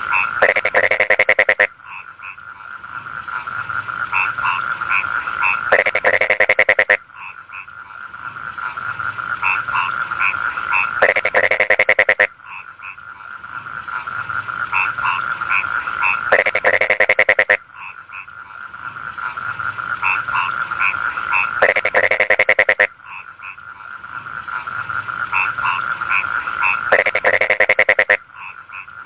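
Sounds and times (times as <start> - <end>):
frogs croaking: 0.0 - 29.0
rapid rattling frog call: 0.0 - 29.0.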